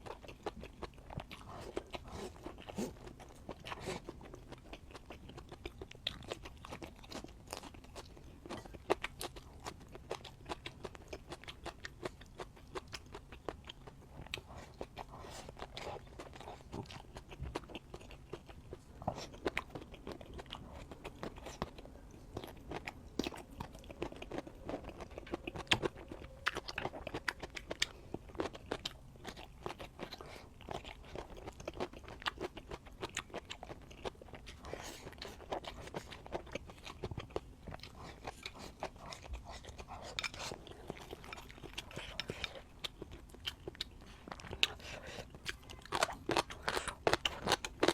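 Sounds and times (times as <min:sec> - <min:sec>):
person crunching and chewing food: 0:00.0 - 0:47.9.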